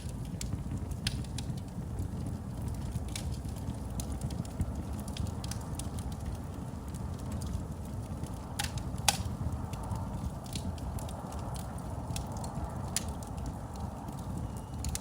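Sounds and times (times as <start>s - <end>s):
fire crackling: 0.0s - 15.0s
fire rumbling: 0.0s - 15.0s
wood fire pops: 0.0s - 15.0s.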